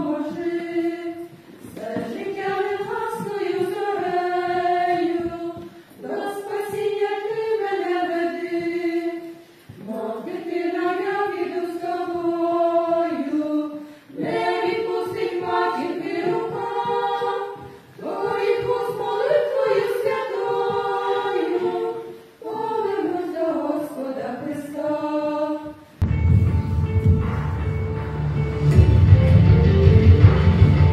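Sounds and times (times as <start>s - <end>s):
women singing in harmony: 0.0s - 26.0s.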